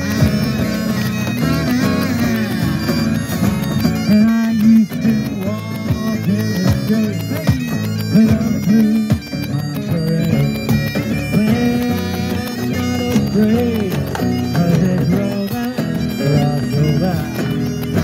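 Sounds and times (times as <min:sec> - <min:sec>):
bagpipes playing: 0:00.0 - 0:18.0
electric guitar: 0:00.0 - 0:18.0.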